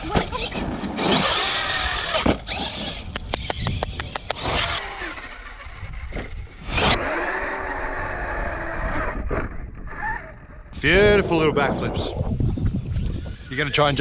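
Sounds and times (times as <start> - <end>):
electric motor whining: 0.0 - 11.0, 12.5 - 14.0.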